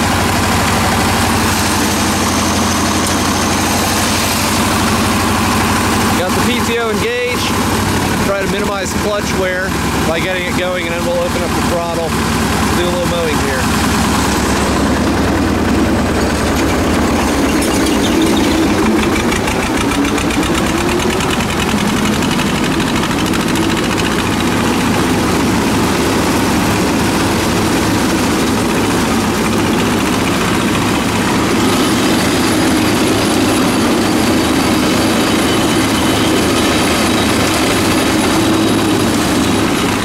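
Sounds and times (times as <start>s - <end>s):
rotary mower cutting grass: 0.0s - 40.0s
tractor diesel engine running: 0.0s - 40.0s.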